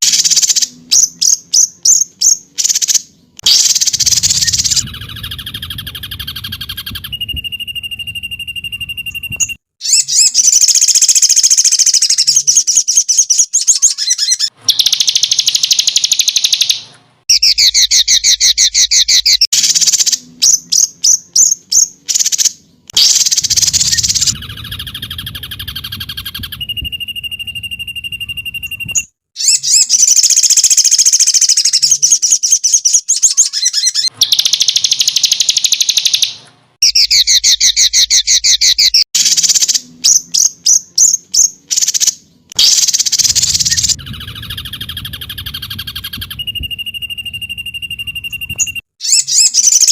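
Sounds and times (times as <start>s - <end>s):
songbird trills and chattering: 0.0s - 49.9s.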